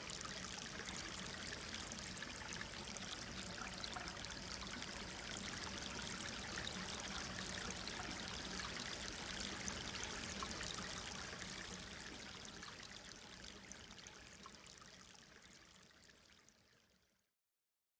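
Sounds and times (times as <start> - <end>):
stream flowing and trickling: 0.0 - 17.2.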